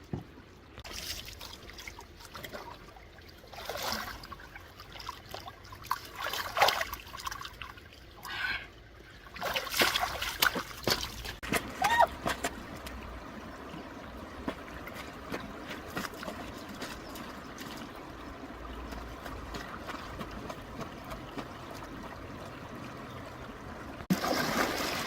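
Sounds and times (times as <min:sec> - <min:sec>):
stream water splashing: 0:00.7 - 0:25.0.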